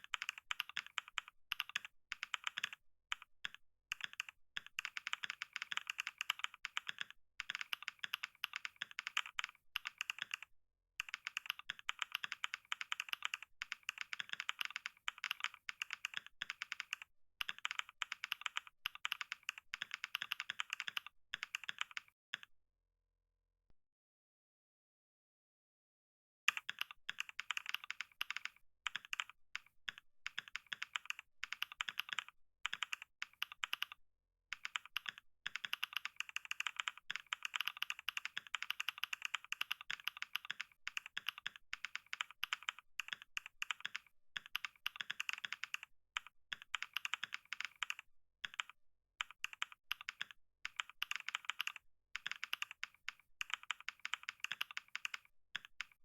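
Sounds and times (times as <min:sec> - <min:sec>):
fast typing on keyboard: 0:00.0 - 0:22.5, 0:26.5 - 0:56.0.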